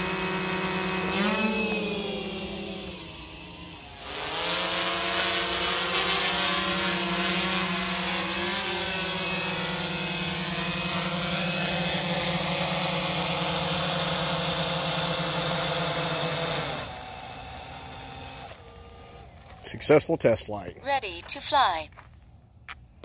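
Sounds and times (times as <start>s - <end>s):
drone propellers buzzing: 0.0s - 19.6s.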